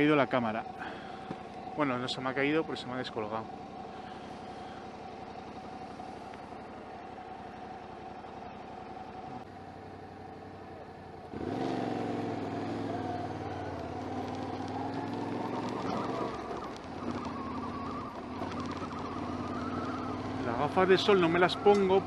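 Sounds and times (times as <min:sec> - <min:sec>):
motorcycle engine idling: 0:00.0 - 0:11.4, 0:12.0 - 0:22.0
motorcycle riding up: 0:00.0 - 0:22.0.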